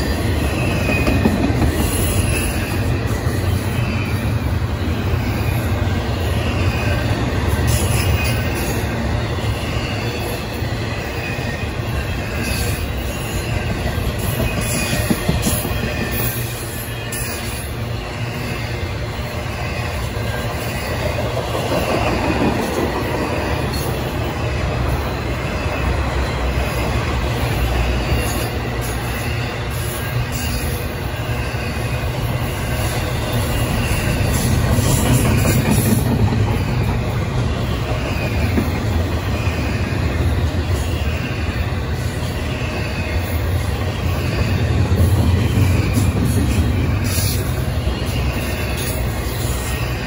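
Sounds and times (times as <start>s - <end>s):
high wheel squeal: 0.0s - 50.0s
train wheels rumbling on rail: 0.0s - 50.0s.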